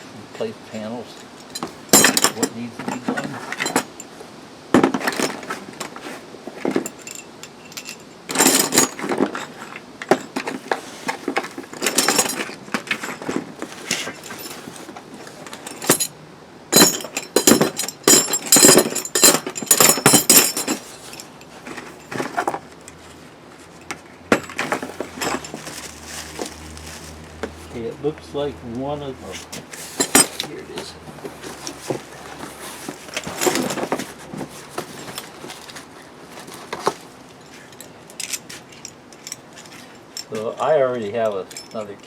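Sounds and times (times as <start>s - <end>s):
metal bolts and washers clinking: 1.1s - 4.1s, 4.8s - 23.0s, 23.8s - 26.6s, 29.5s - 35.9s, 36.5s - 42.0s.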